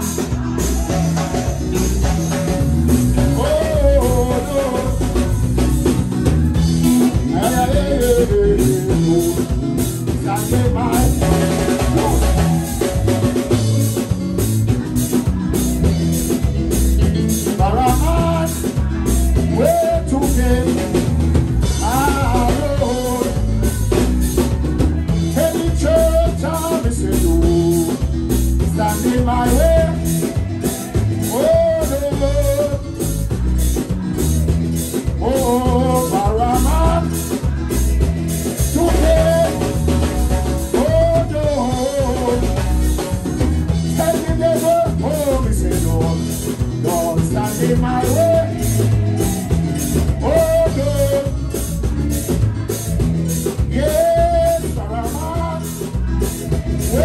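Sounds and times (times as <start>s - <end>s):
drum kit beat: 0.0s - 57.0s
sliding melody line: 0.0s - 57.0s.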